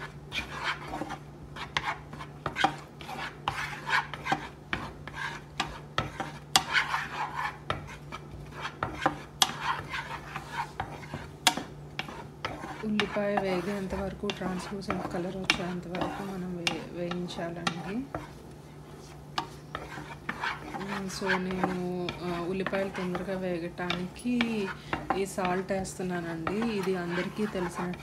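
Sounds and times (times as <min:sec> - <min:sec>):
spatula scraping frying pan: 0:00.0 - 0:28.0.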